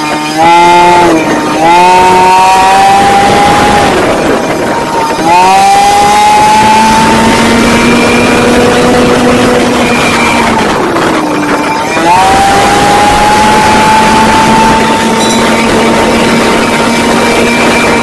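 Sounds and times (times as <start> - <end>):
outboard motor revving: 0.0 - 18.0.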